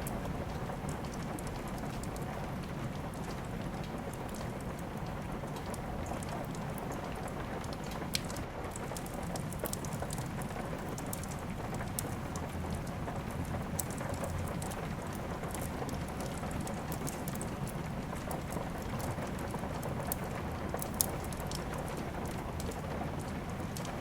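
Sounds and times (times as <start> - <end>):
fireplace crackling: 0.0 - 24.0
rain hiss: 0.0 - 24.0.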